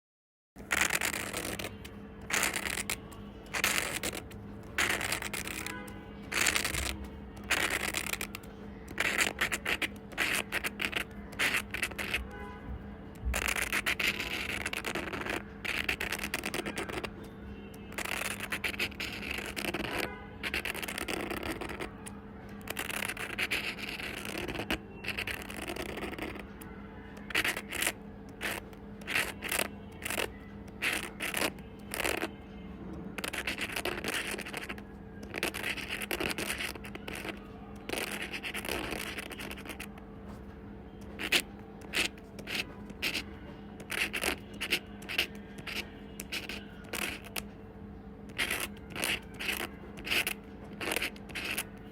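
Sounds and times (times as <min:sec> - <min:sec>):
pencil scratching on paper: 0:00.6 - 0:17.2, 0:17.8 - 0:26.5, 0:27.2 - 0:32.3, 0:33.2 - 0:40.0, 0:41.0 - 0:47.4, 0:48.3 - 0:51.9.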